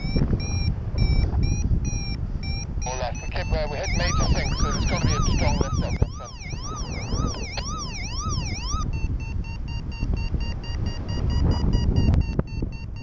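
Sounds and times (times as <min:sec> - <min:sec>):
quick electronic beeps: 0:00.0 - 0:13.0
variometer warbling electronic tone: 0:00.0 - 0:13.0
wind rumble on microphone: 0:00.0 - 0:13.0.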